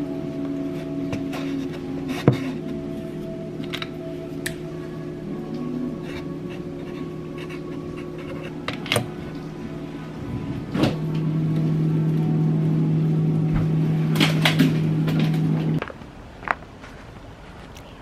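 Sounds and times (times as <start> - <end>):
microwave oven humming: 0.0 - 15.8.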